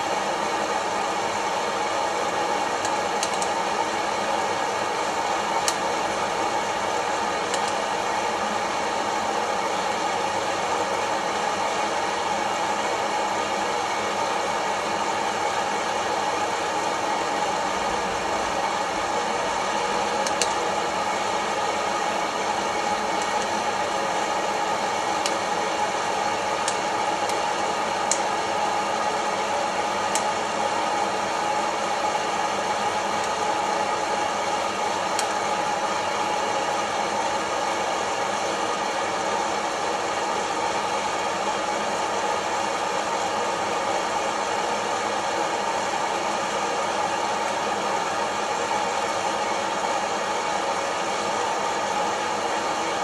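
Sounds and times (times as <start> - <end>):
coffee roaster fan rushing: 0.0 - 53.0.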